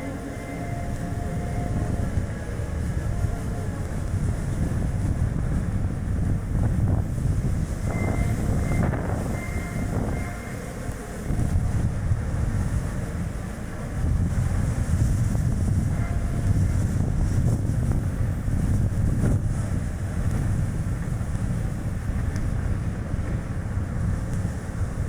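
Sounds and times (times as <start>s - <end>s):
car tyre and road rumble: 0.0s - 25.0s
wind buffeting microphone: 0.0s - 25.0s.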